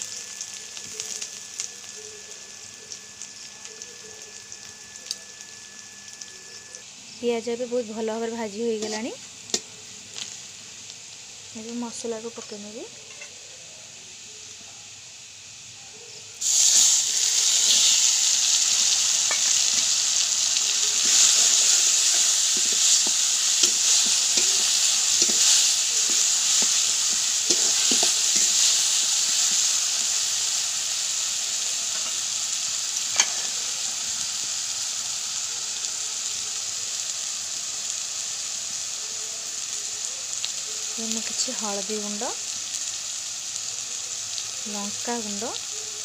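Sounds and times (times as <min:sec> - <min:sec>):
paste sizzling in hot oil: 0:00.0 - 0:14.6, 0:16.4 - 0:46.0.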